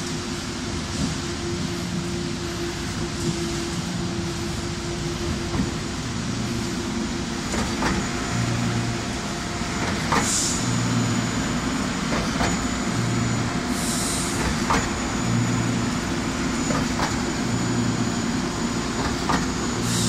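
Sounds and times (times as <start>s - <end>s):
concrete pump engine humming: 0.0s - 20.0s.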